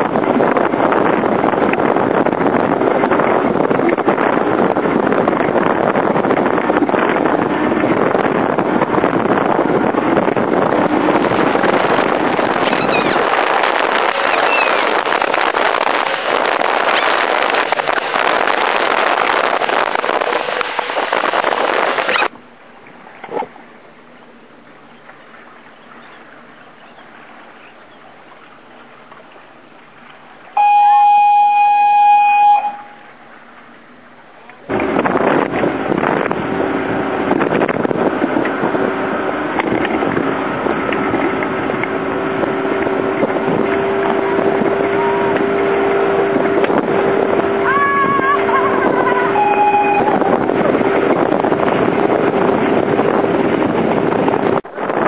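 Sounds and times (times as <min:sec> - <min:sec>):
motorboat running at speed: 0:00.0 - 0:55.0
wind and water noise: 0:00.0 - 0:55.0.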